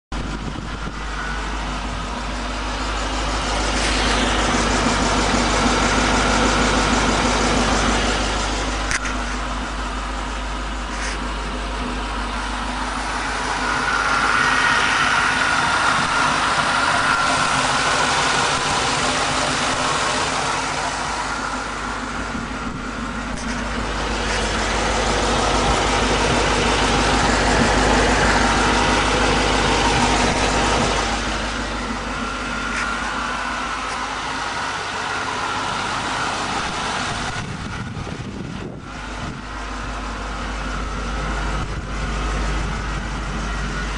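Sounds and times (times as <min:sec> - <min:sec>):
car engine running: 0:00.0 - 0:43.9
strange noise under car: 0:00.1 - 0:43.9.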